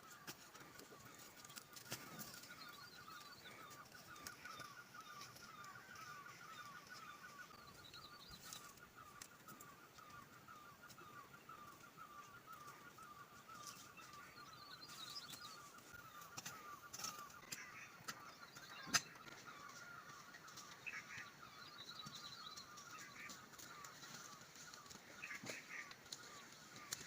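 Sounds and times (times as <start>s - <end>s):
birds chirping: 0.0s - 27.0s
higher bird calls: 0.0s - 27.0s.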